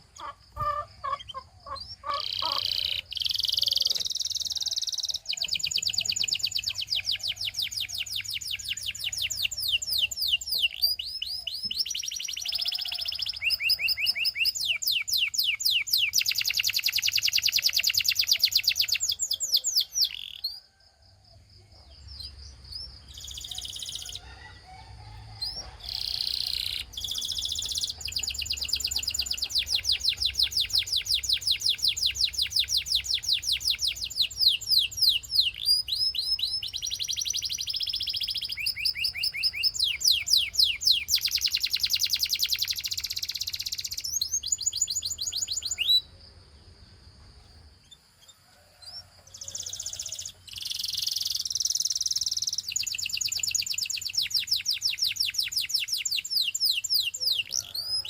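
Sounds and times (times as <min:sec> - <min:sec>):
canary singing trills: 0:00.0 - 0:20.8, 0:21.8 - 0:24.6, 0:25.2 - 0:46.2, 0:47.8 - 0:58.0.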